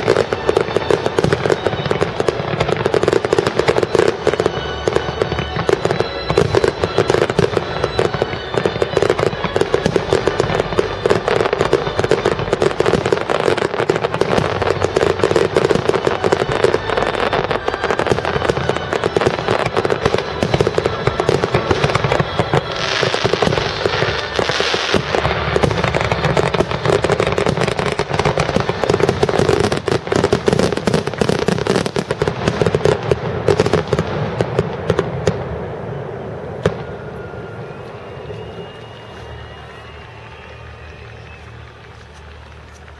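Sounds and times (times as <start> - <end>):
fireworks bangs and crackle: 0.0 - 42.9.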